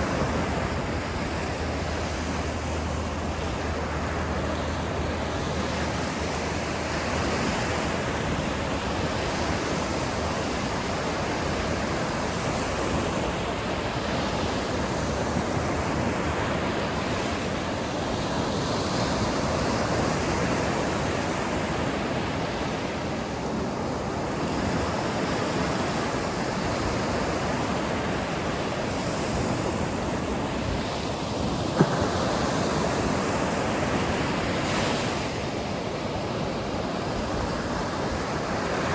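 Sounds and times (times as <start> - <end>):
ocean surf washing ashore: 0.0 - 38.9.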